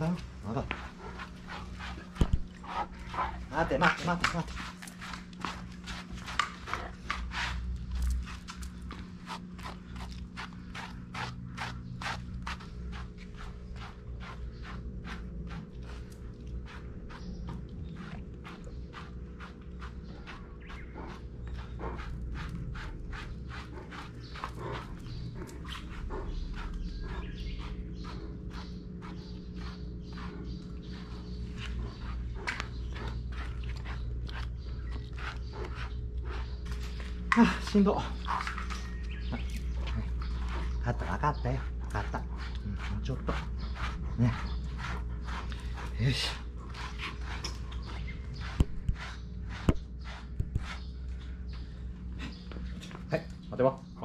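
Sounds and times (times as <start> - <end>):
brush scratching through dog fur: 0.2 - 51.1.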